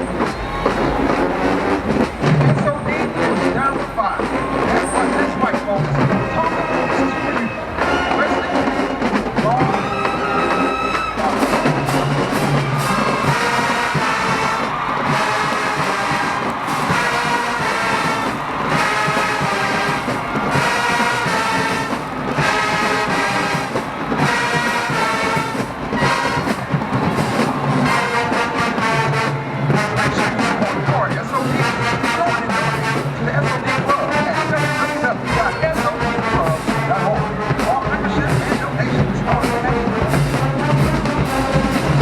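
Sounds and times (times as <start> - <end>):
brass section playing chords: 0.0 - 42.0
marching percussion: 0.0 - 42.0.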